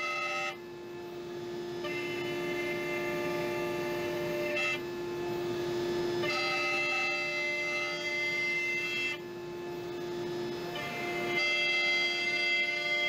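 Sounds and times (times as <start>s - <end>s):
router cutting wood: 0.0s - 13.0s.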